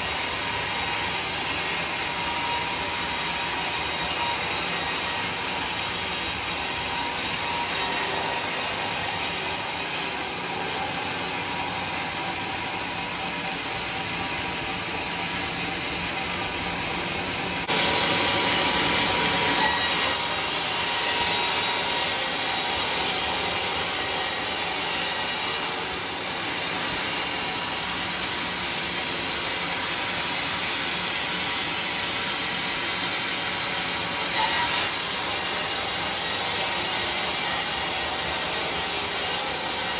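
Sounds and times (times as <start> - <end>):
band saw cutting wood: 0.0 - 13.7, 15.7 - 28.2, 32.5 - 39.9.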